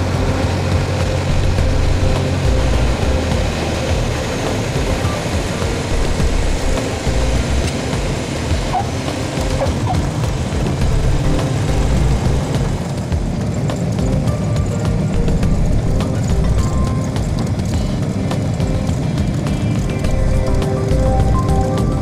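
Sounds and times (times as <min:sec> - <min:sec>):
aircraft engine and propeller: 0:00.0 - 0:22.0
wheels touching down on runway: 0:00.0 - 0:22.0.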